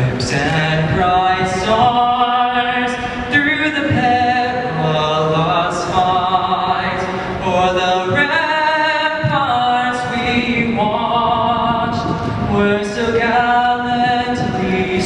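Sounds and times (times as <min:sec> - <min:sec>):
man singing an anthem unaccompanied: 0:00.0 - 0:15.0.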